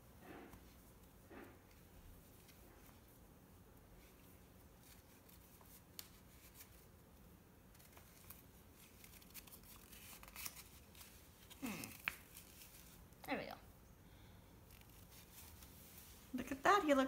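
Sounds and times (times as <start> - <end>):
fabric handling noise: 0.0 - 13.6, 14.6 - 17.0.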